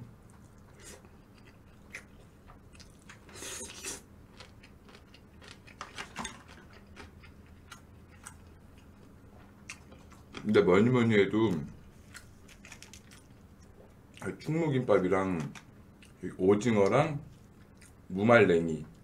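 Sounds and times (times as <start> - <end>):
chewing food: 0.2 - 10.6, 11.4 - 14.3, 15.4 - 16.2, 16.8 - 18.0.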